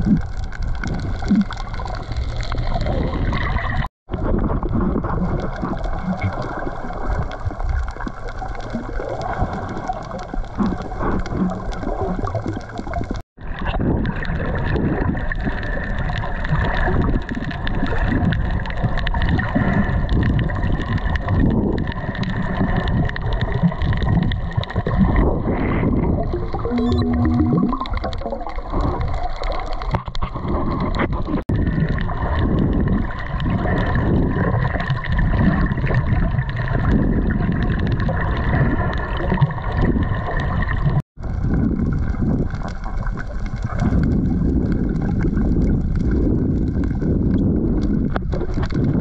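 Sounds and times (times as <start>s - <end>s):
water sloshing and gurgling: 0.0s - 49.0s.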